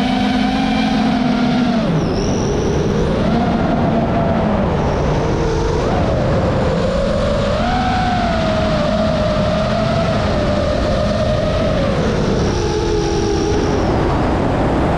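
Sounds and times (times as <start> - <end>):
drone motors and propellers whining: 0.0 - 14.9.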